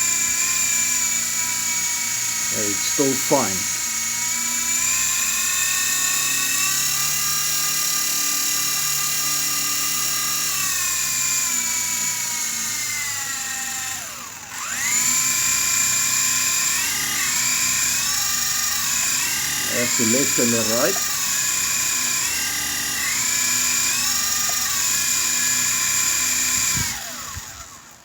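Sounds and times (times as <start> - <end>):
rc helicopter rotor whining: 0.0 - 28.0.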